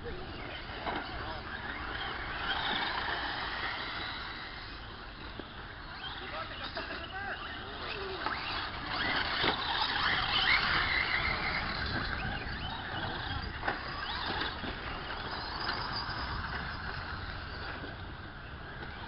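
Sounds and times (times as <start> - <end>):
rc truck motors whining: 0.0 - 19.0.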